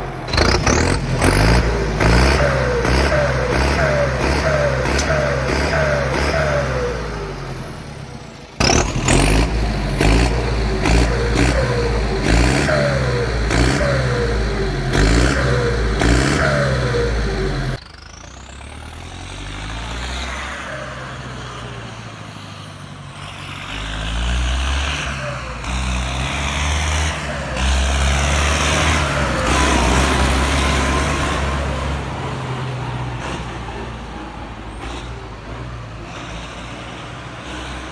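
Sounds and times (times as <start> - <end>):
turbocharger whine: 0.0 - 22.2, 23.6 - 32.2
tractor diesel engine revving: 0.0 - 37.9.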